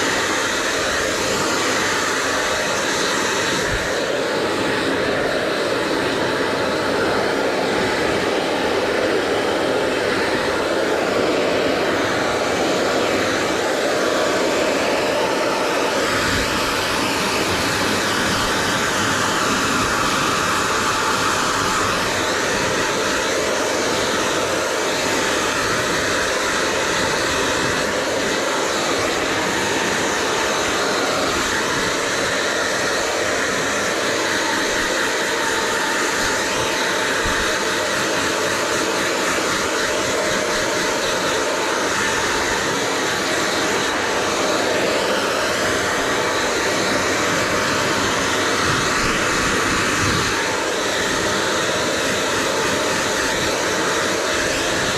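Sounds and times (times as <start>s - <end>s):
hair dryer blowing: 0.0s - 54.9s.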